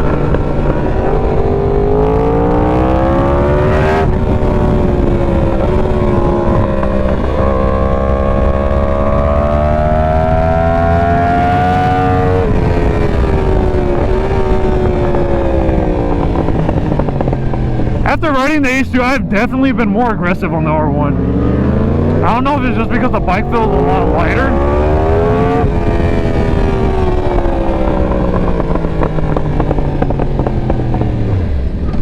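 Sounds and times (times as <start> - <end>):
motorcycle engine accelerating hard: 0.0 - 32.0.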